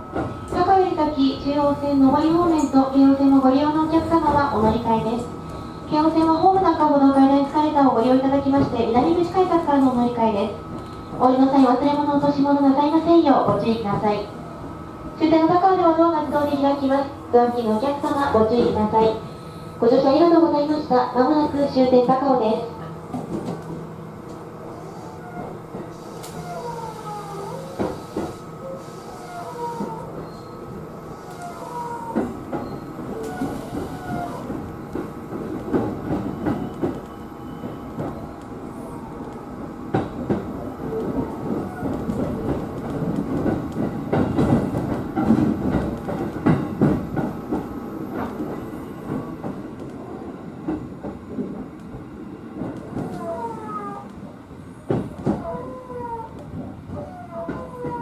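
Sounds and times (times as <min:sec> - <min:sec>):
train interior low hum: 0:00.0 - 0:58.0.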